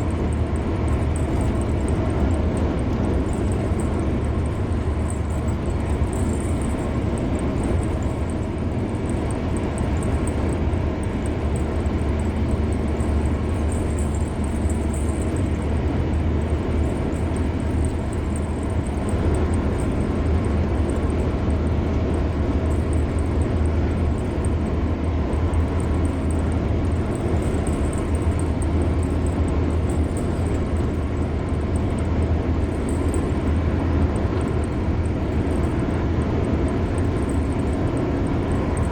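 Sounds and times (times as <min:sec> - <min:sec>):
car road and tyre noise: 0:00.0 - 0:38.9
deep engine rumble: 0:00.0 - 0:38.9.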